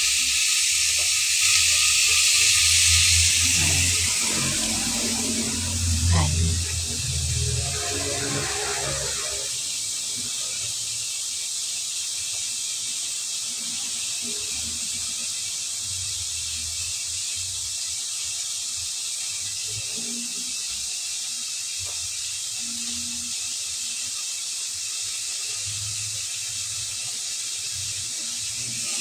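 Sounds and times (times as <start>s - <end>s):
food sizzling in a hot pan: 0.0s - 29.0s.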